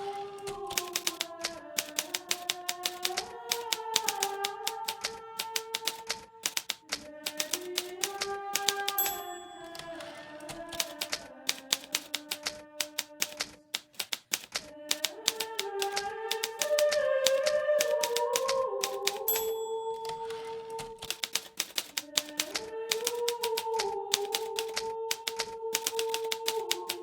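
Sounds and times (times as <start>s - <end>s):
typewriter key strikes: 0.7s - 27.0s.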